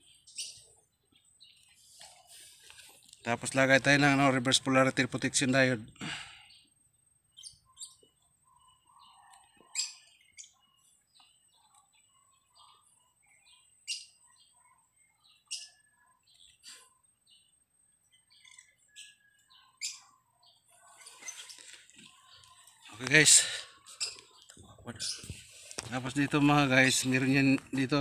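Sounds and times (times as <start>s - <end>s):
bird chirps: 0.0s - 28.0s.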